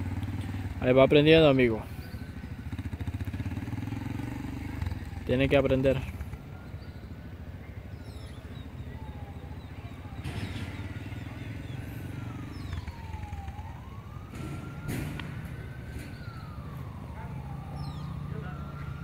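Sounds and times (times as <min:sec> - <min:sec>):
small motorcycle engine whine: 0:00.0 - 0:19.0.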